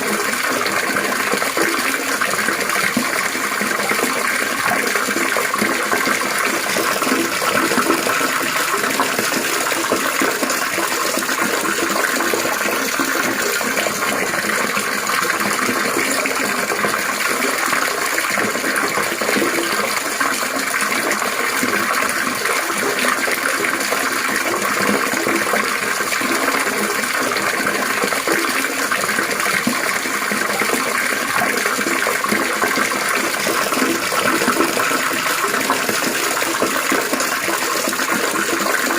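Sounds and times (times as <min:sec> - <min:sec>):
water trickling and babbling: 0:00.0 - 0:38.9.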